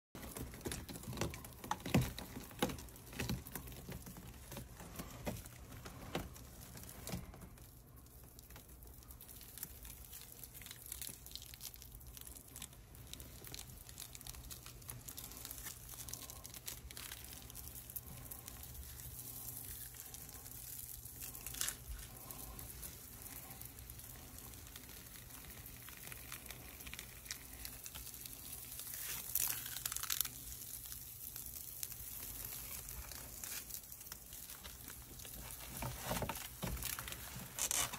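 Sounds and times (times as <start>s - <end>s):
snake skin crackling: 0.2s - 37.9s.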